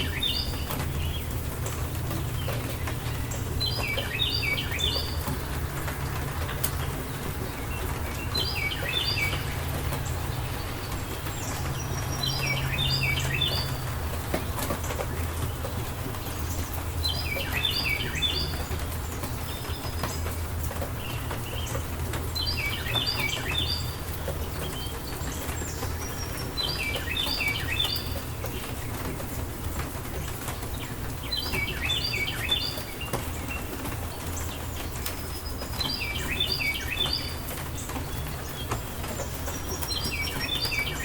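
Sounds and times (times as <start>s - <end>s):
rain hiss: 0.0s - 41.0s
songbird singing: 0.0s - 41.0s.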